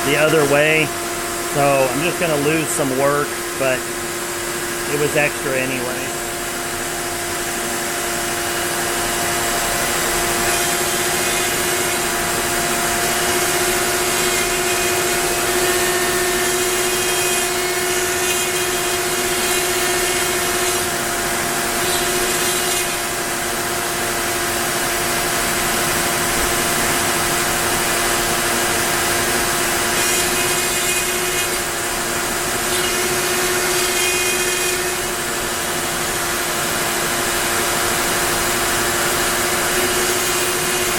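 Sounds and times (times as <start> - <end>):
router whining while cutting wood: 0.0 - 40.9.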